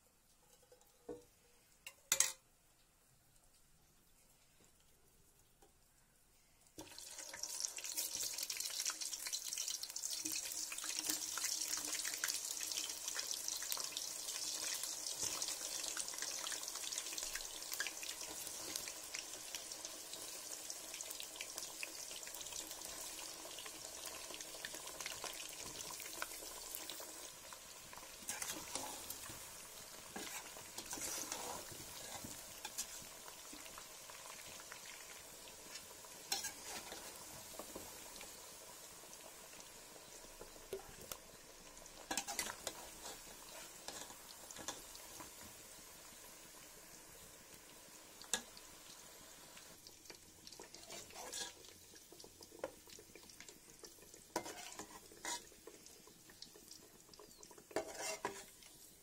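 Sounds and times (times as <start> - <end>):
potatoes sizzling in hot oil: 6.8 - 59.0.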